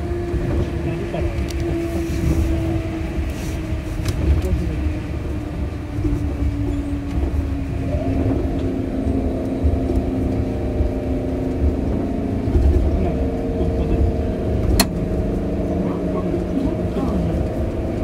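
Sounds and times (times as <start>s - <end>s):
train motor hum: 0.0s - 18.0s
train running gear rumble: 0.0s - 18.0s.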